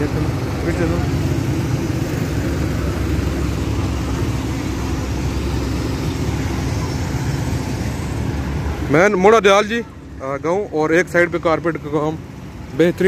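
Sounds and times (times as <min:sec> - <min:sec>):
diesel engine rumbling: 0:00.0 - 0:13.0
steady hum: 0:00.0 - 0:13.0.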